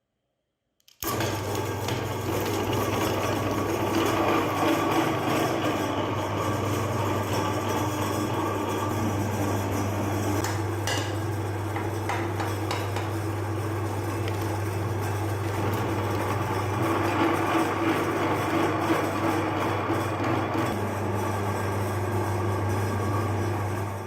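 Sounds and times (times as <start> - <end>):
electric meat grinder humming: 1.0 - 24.0.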